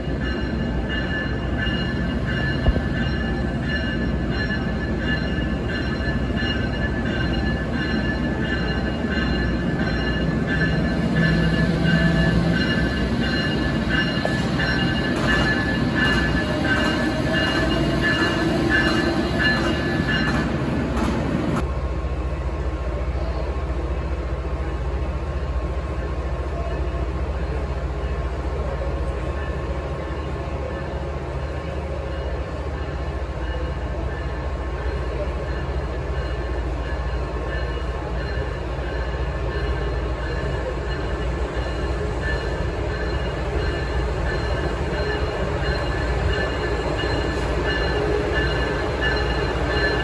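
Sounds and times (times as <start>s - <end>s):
train wheels squealing: 0.0s - 21.2s, 26.0s - 50.0s
low rumble of approaching train: 0.0s - 50.0s.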